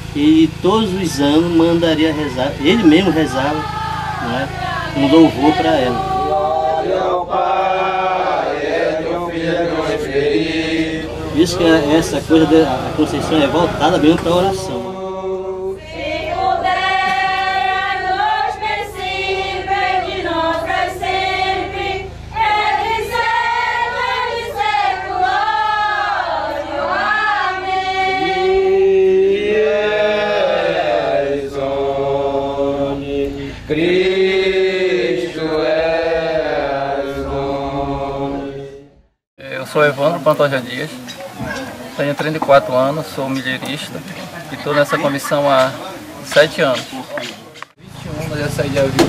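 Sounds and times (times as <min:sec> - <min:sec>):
group singing a hymn: 0:00.0 - 0:47.8.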